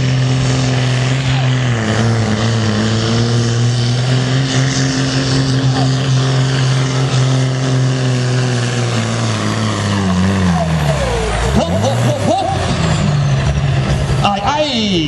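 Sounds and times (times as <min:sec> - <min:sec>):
diesel tractor engine at high revs: 0:00.0 - 0:15.0.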